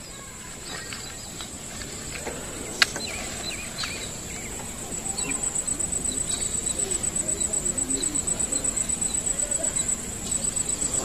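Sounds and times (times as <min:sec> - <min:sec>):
bird chirps: 0:00.0 - 0:11.0
high insect drone: 0:00.0 - 0:11.0.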